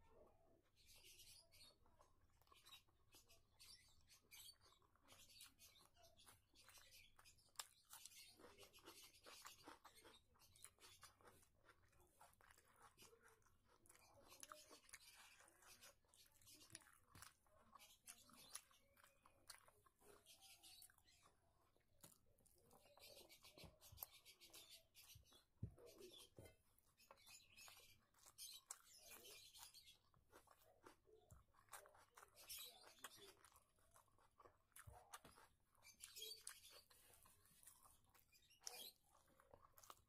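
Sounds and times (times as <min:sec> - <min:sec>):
fingers mixing wet rice: 0:01.4 - 0:40.0
mouth chewing: 0:01.4 - 0:40.0.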